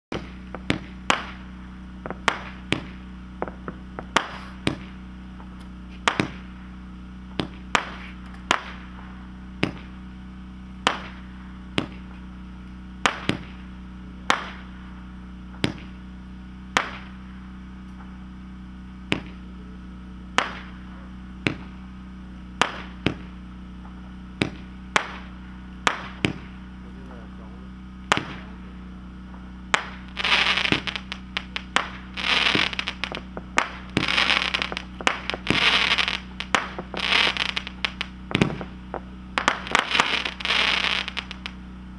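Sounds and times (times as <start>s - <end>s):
firework launch thumps: 0.1s - 6.6s, 7.2s - 10.1s, 10.8s - 12.3s, 13.0s - 13.7s, 14.3s - 14.8s, 15.5s - 16.0s, 16.7s - 18.2s, 19.0s - 19.5s, 20.3s - 21.9s, 22.5s - 26.7s, 28.0s - 41.6s
firework aerial bursts: 0.1s - 41.9s.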